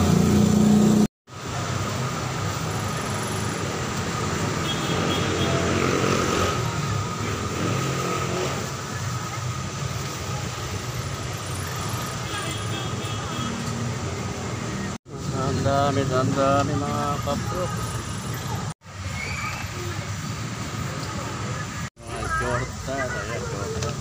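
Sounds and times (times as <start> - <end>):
busy market din: 0.0 - 24.0
street traffic: 0.0 - 24.0.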